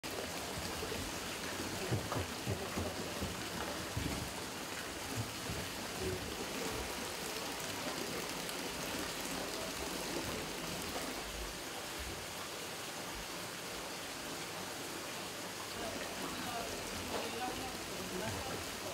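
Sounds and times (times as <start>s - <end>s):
water splashing and trickling: 0.0s - 18.9s.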